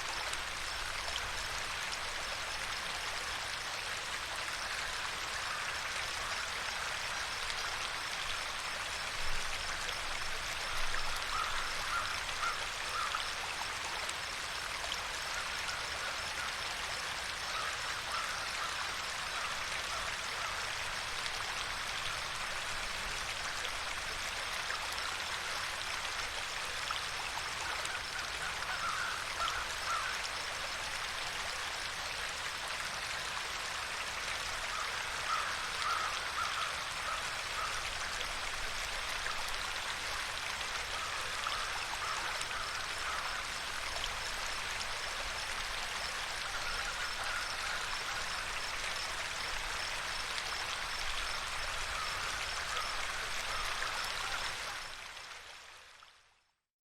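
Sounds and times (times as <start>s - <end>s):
running water: 0.0s - 56.2s.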